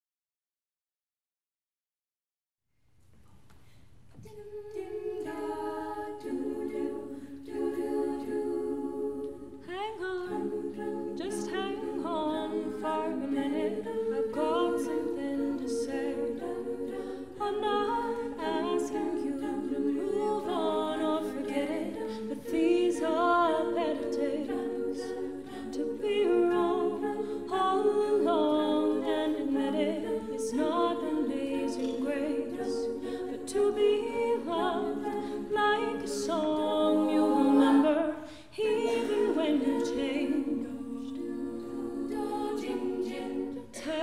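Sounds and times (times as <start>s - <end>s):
backing voices singing chords: 4.3s - 44.0s.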